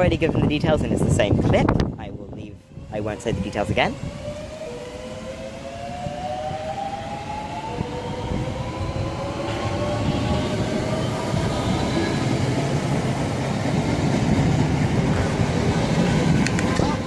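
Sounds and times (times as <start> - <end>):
wheels rumbling on rail: 0.0 - 17.0
electric train motors whining: 2.6 - 17.0.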